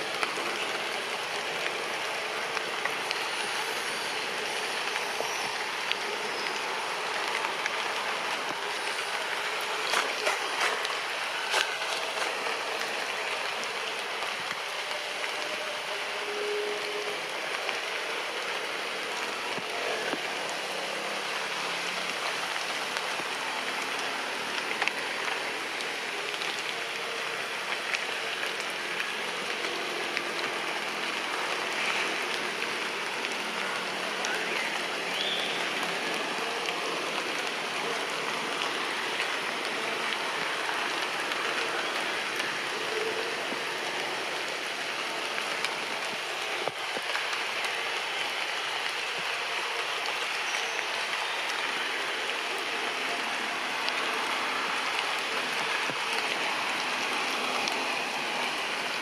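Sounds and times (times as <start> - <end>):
rain on tree leaves: 0.0 - 59.0.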